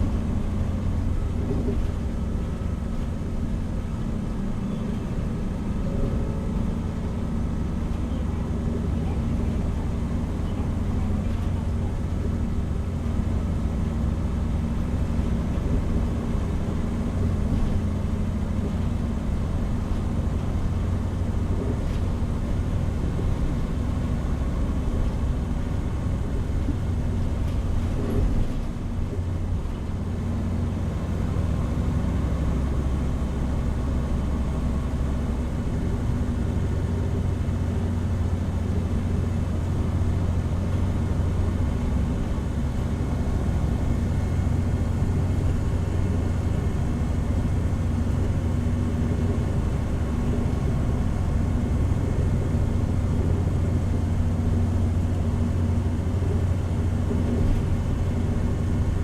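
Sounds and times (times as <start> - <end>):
bus diesel engine droning: 0.0 - 59.0
road noise: 0.0 - 59.0.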